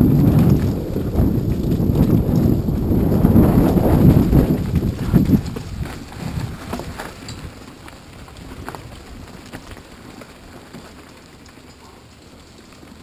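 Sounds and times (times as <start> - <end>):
bike clicks and rattles: 0.0 - 13.0
bike tyres crunching over dirt: 0.0 - 13.0.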